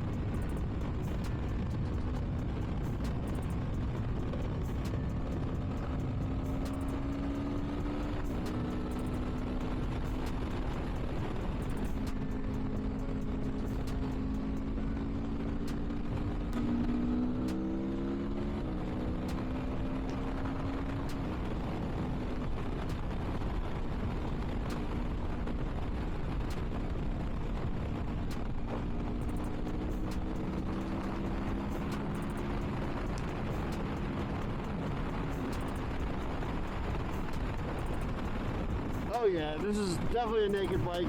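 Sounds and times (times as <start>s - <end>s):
motorcycle engine running: 0.0s - 41.0s
wind noise: 0.0s - 41.0s.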